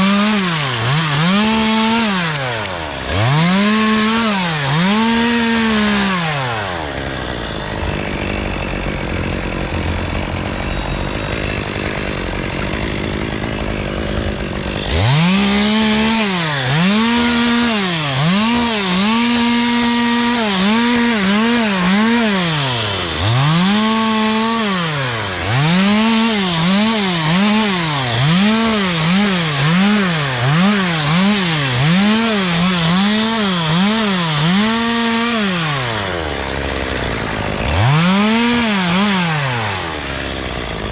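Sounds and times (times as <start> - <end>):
chainsaw running and revving: 0.0 - 40.9.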